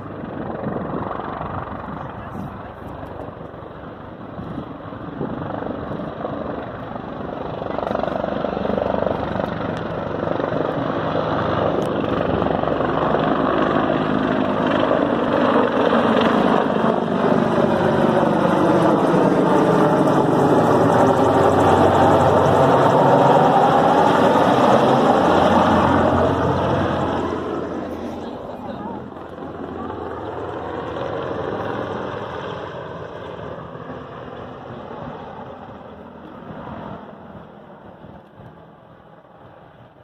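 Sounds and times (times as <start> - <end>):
helicopter flying low: 0.0 - 40.0.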